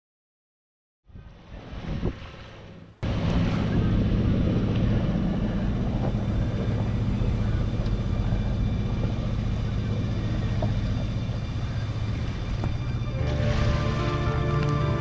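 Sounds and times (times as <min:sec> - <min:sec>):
boat engine droning: 0:01.1 - 0:15.0
faint water wash: 0:01.2 - 0:15.0.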